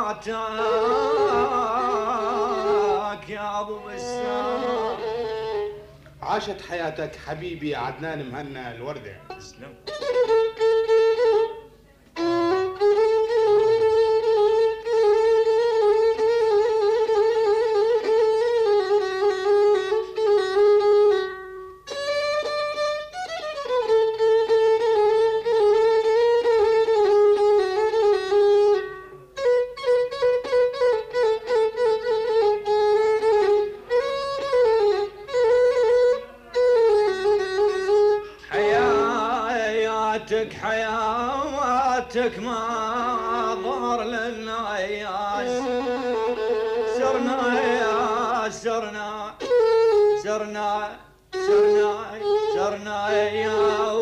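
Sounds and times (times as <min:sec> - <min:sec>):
violin melody: 0:00.0 - 0:06.2, 0:09.0 - 0:54.0.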